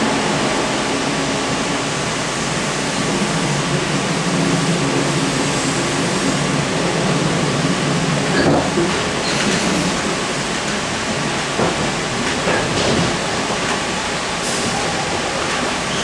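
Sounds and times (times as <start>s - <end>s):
train wheel and running noise: 0.0s - 16.0s.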